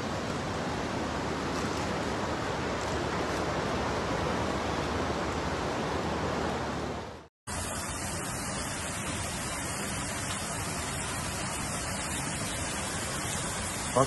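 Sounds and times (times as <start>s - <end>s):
flood torrent roaring down street: 0.0s - 14.0s
floodwater rushing: 0.0s - 14.0s.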